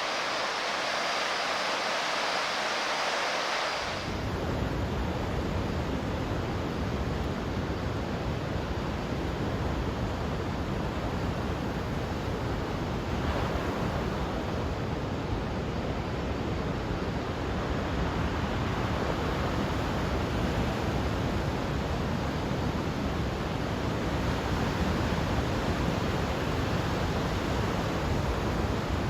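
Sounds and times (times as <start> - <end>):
ocean waves breaking on beach: 0.0 - 5.9, 8.8 - 29.0.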